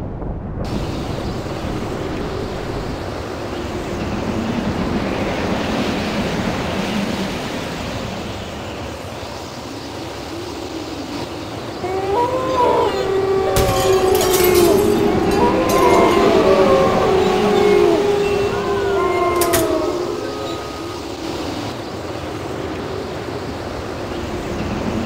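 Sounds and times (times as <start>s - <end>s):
wind blowing with faint moan: 0.0s - 25.0s.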